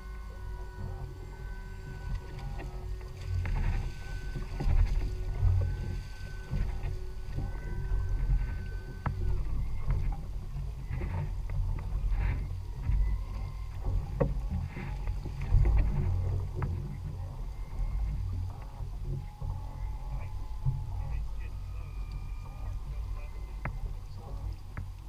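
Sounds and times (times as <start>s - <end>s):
outboard motor running: 0.0s - 25.0s
water washing at stern: 0.0s - 25.0s
wind on microphone: 0.0s - 25.0s.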